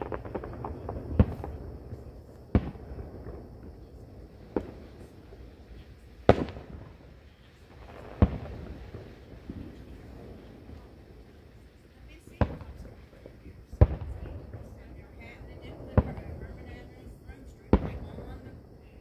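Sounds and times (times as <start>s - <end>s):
firework bangs: 0.0s - 19.0s
low rolling rumble: 0.0s - 19.0s.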